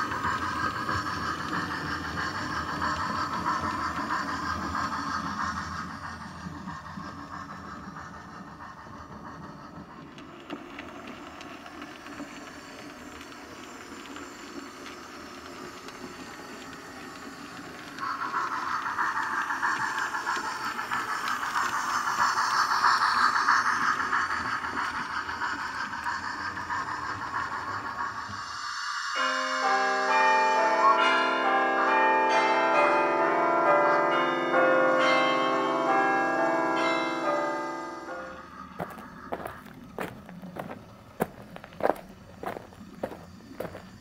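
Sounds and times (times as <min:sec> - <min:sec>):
steam hiss: 0:00.0 - 0:34.1, 0:37.1 - 0:44.0
model train running on track: 0:00.0 - 0:44.0.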